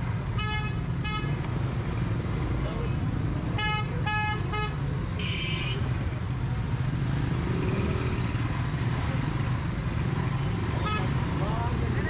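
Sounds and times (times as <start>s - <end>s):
street traffic engine rumble: 0.0s - 12.0s.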